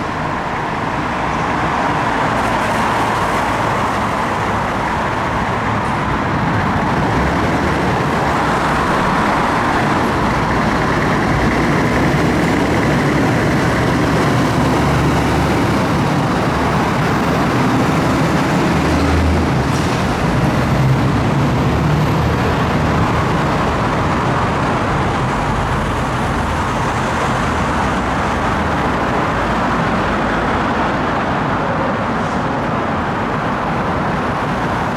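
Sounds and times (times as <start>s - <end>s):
road traffic noise: 0.0s - 34.9s.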